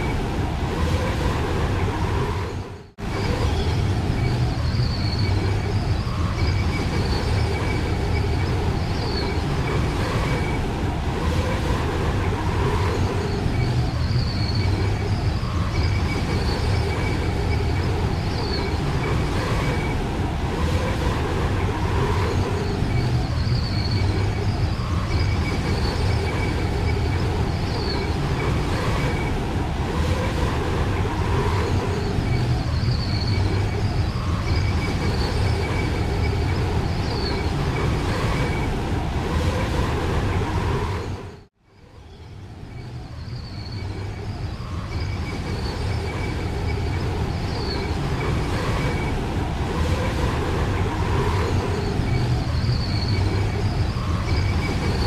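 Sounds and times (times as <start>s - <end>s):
thin whistling wind: 0.0s - 55.0s
wind roaring: 0.0s - 55.0s.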